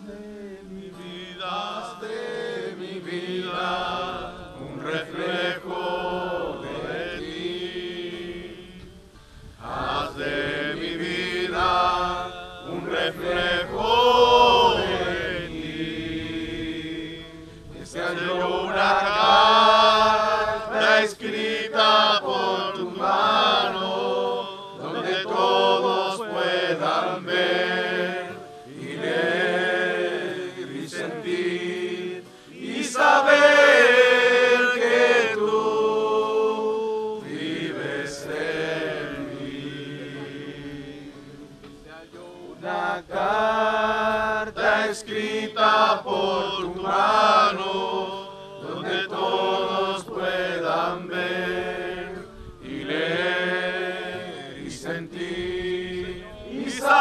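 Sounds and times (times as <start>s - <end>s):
group singing worship song: 0.0s - 57.0s.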